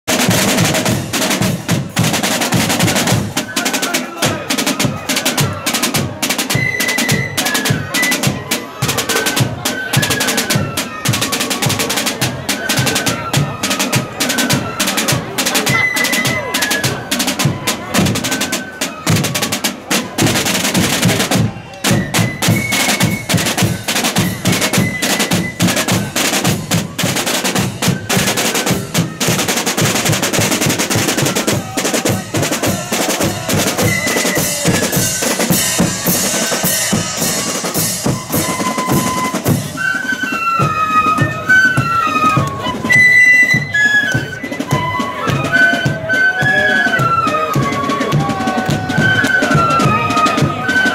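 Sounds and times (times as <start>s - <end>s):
snare and bass drums marching beat: 0.1s - 50.9s
flutes playing melody: 0.2s - 50.9s.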